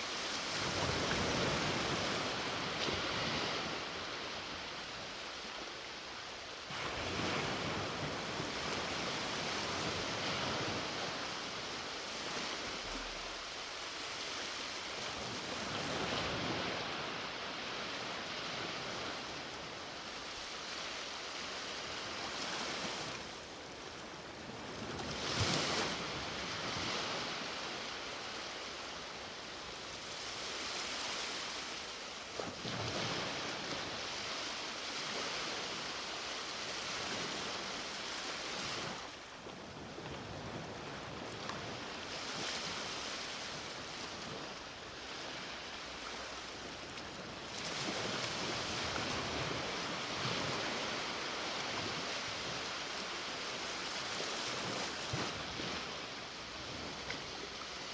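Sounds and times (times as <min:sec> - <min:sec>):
ocean waves breaking on beach: 0:00.0 - 0:57.9.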